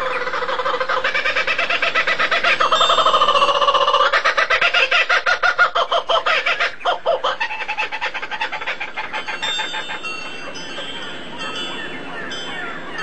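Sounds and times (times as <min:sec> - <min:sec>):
fowl clucking: 0:00.0 - 0:11.1.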